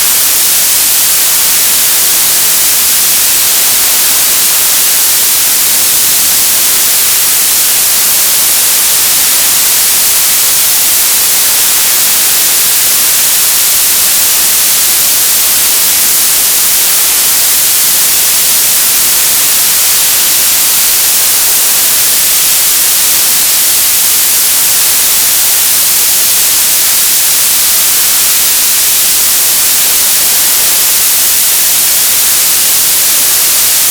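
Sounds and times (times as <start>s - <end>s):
television static hiss: 0.0s - 33.9s.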